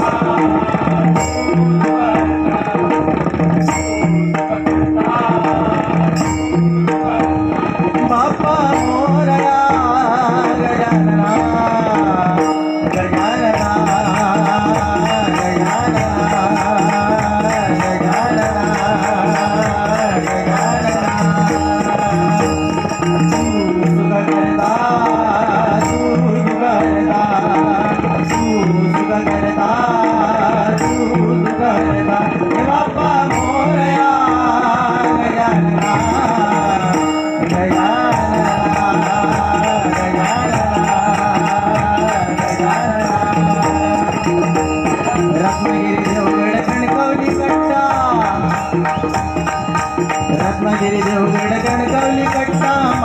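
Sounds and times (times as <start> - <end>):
hand drum beat: 0.0 - 53.0.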